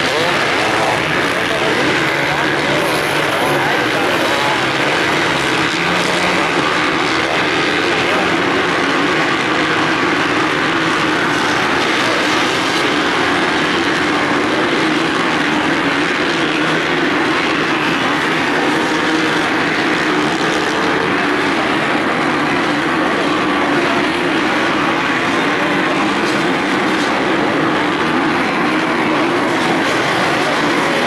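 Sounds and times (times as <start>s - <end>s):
motocross engines revving: 0.0s - 31.0s.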